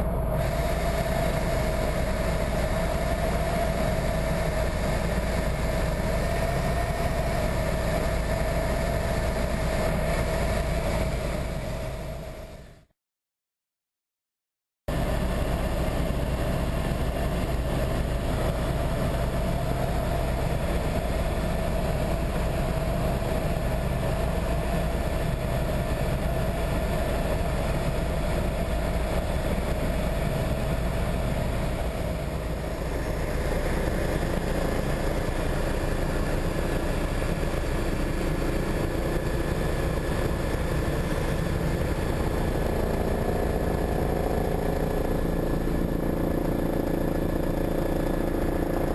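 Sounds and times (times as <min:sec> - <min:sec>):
constant rumble: 0:00.0 - 0:12.9, 0:14.9 - 0:48.9
engine running steadily: 0:00.0 - 0:12.9, 0:14.9 - 0:48.9.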